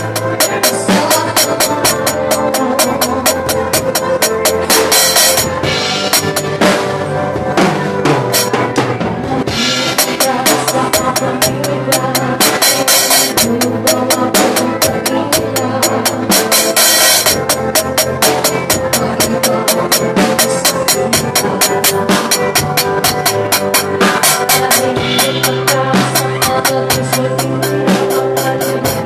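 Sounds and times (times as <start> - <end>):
bass drum and snare beat: 0.0 - 29.0
live band music: 0.0 - 29.0.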